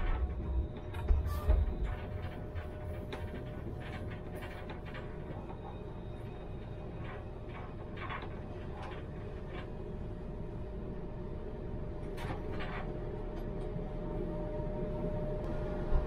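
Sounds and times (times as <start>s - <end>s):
tram rumbling: 0.0s - 16.0s.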